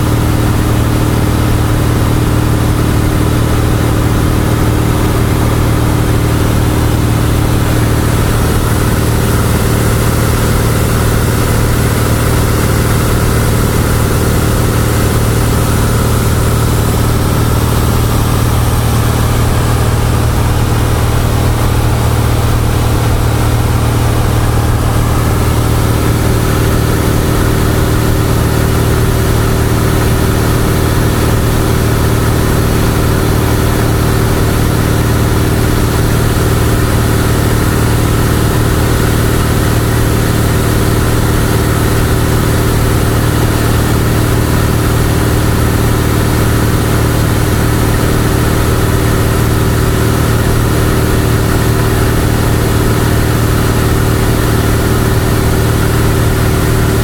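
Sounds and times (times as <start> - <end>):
airplane piston engine and propeller: 0.0 - 57.0.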